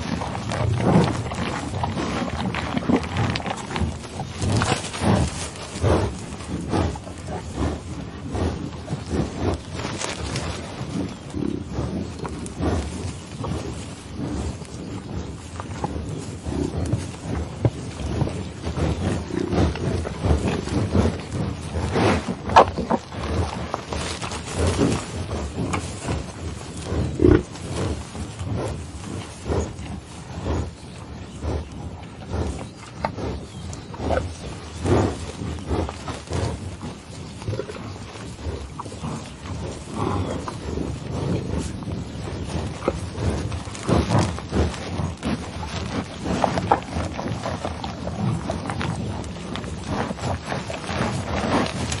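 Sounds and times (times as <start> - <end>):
bison grunting: 0.0 - 52.0.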